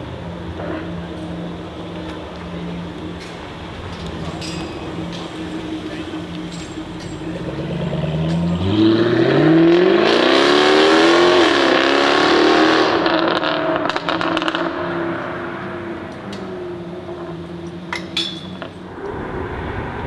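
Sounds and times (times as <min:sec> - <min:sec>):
car engine accelerating hard: 0:00.0 - 0:17.9
exhaust crackles: 0:00.0 - 0:20.0.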